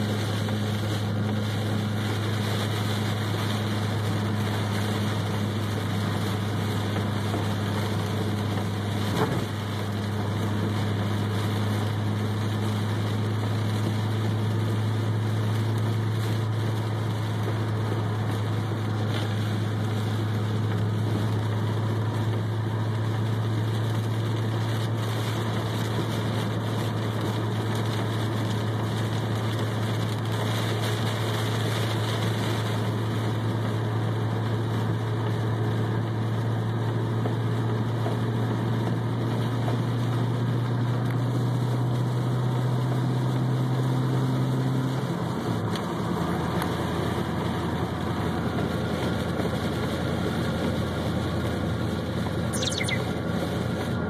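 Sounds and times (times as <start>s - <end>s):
car engine drone: 0.0s - 41.0s, 41.9s - 54.0s
rain and tyre spray on car: 0.0s - 54.0s.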